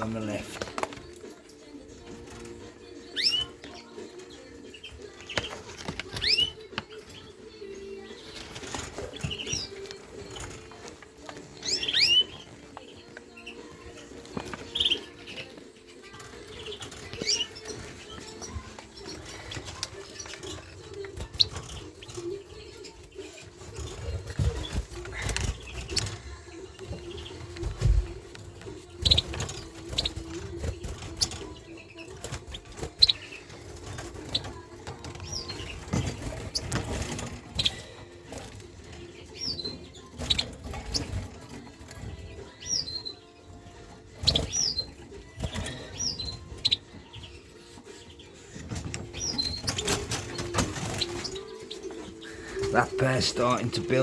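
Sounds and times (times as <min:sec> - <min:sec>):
birds fluttering in cages: 0:00.0 - 0:54.0.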